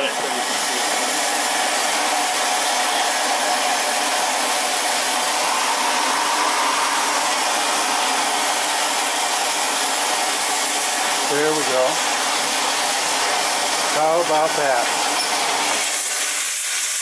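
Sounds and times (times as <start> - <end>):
locomotive machinery noise: 0.0 - 16.9
steam hiss: 0.0 - 17.0.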